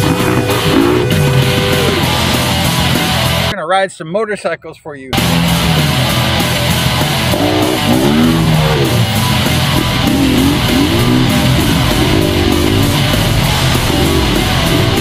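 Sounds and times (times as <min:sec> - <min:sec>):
rock music with electric guitar: 0:00.0 - 0:03.6, 0:05.2 - 0:15.0.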